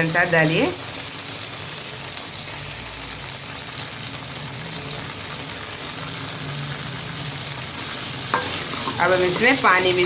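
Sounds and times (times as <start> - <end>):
masala sizzling in oil: 0.0 - 10.0.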